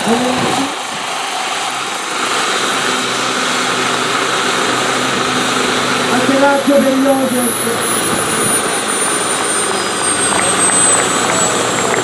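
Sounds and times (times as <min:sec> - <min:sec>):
model helicopter turbine whine: 0:00.0 - 0:12.0.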